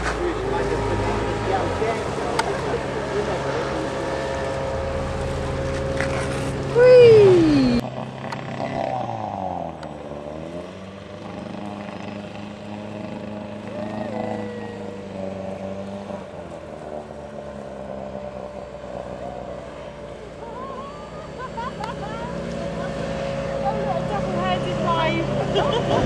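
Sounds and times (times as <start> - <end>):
distant engine drone: 0.0 - 26.0
speedboat outboard motor passing: 0.0 - 26.0.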